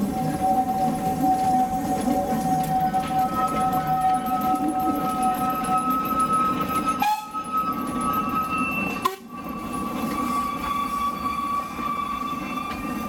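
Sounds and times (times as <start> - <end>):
rumble of carriages rolling: 0.0 - 13.0
wheels squealing on rails: 0.0 - 13.0.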